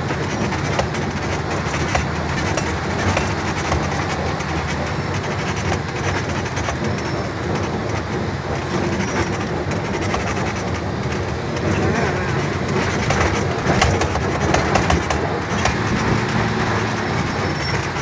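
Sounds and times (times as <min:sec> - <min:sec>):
cab rattles and clicks: 0:00.0 - 0:18.0
truck engine and road rumble: 0:00.0 - 0:18.0.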